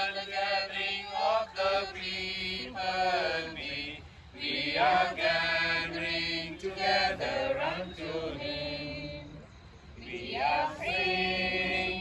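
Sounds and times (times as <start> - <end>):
group singing a hymn: 0.0 - 12.0.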